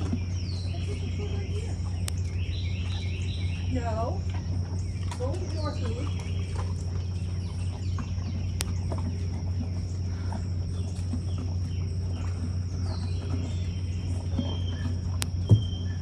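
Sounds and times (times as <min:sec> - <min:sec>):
birds chirping: 0:00.0 - 0:16.0
steady low hum: 0:00.0 - 0:16.0.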